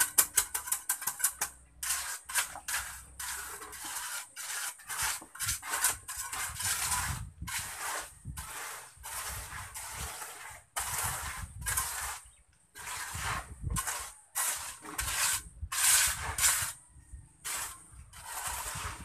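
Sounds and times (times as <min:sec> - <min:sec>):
hand tool scraping concrete floor: 0:00.0 - 0:19.0.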